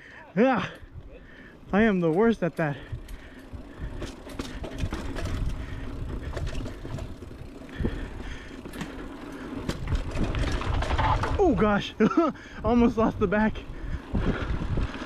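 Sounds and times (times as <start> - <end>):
bike clicking and rattling: 0.0 - 15.0
bike tyres rolling over dirt: 0.6 - 15.0.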